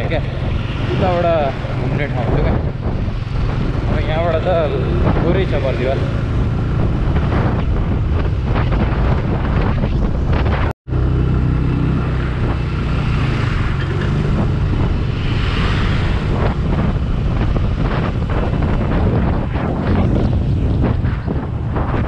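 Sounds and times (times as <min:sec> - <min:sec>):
motorcycle engine cruising: 0:00.0 - 0:22.0
wind noise on microphone: 0:00.0 - 0:22.0.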